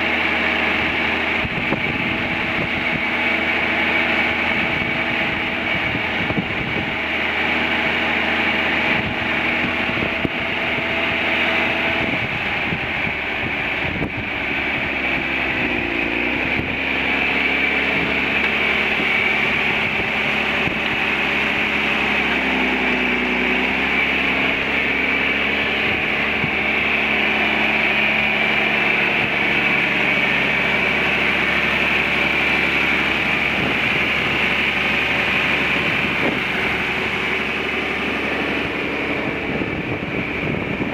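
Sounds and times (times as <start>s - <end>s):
steady high whine: 0.0s - 40.9s
tractor diesel engine running: 0.0s - 40.9s.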